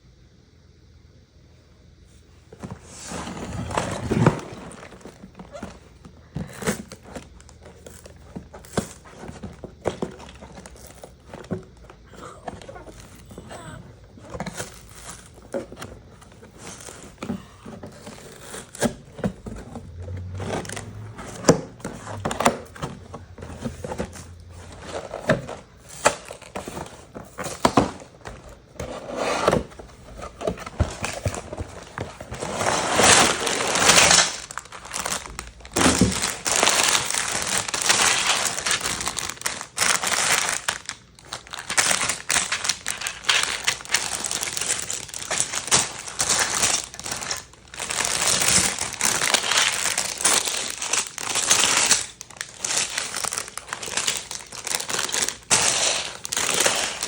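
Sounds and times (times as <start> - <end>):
packaging crinkling: 2.6 - 57.0
knocks and clicks of packaging: 3.5 - 57.0.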